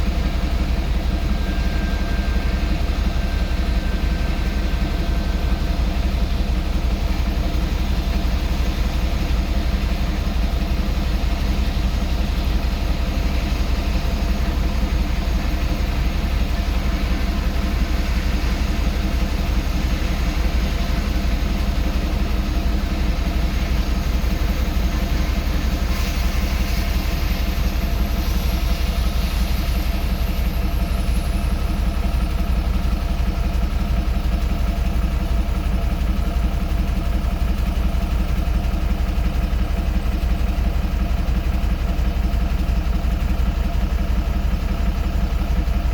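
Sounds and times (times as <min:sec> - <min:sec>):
turbine whine: 0:00.0 - 0:45.9.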